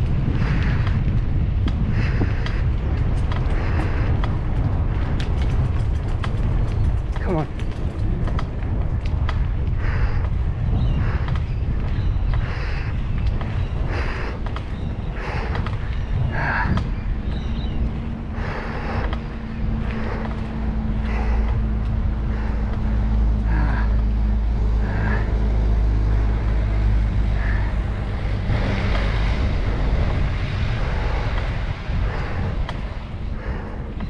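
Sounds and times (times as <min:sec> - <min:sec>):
steady rushing noise: 0:00.0 - 0:34.0
vehicle engine hum: 0:00.0 - 0:34.0.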